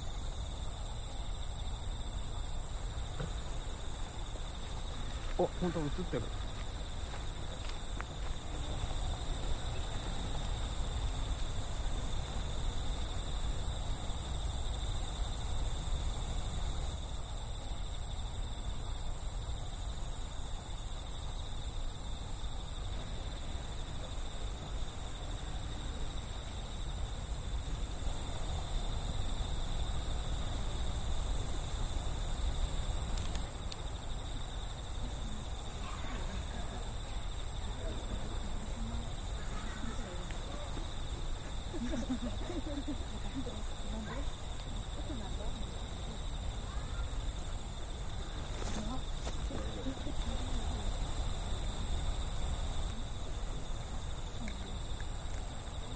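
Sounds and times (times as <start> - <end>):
insects singing: 0.0 - 55.9.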